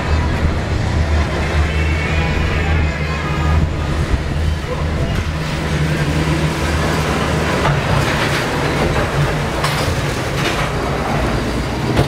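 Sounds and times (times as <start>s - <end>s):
gondola machinery hum: 0.0s - 12.0s.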